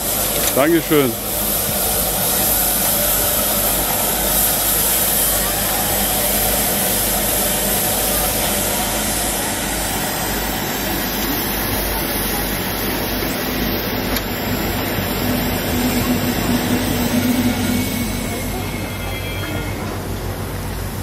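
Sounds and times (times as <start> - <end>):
low steady drone: 0.0 - 21.0
steam hissing: 0.0 - 21.0.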